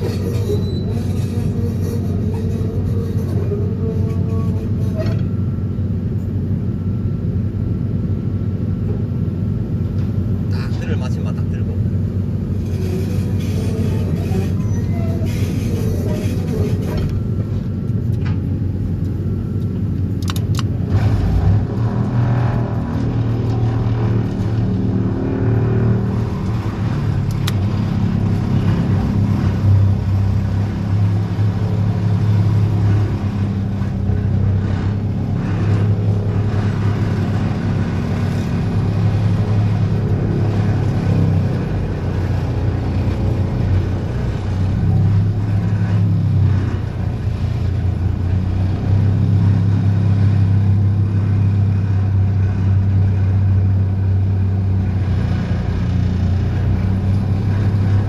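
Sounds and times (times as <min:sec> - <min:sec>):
excavator low hum: 0:00.0 - 0:58.0.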